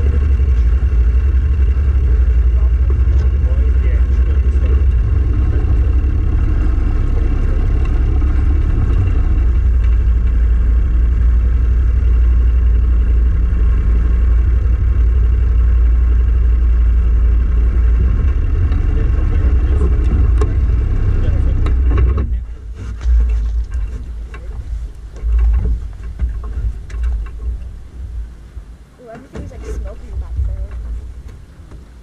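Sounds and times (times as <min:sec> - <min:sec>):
boat motor rumbling: 0:00.0 - 0:32.0.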